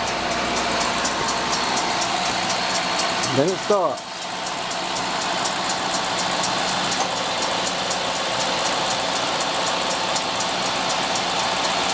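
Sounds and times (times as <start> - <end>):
car engine idling: 0.0 - 11.9
rapid engine ticking: 0.0 - 11.9.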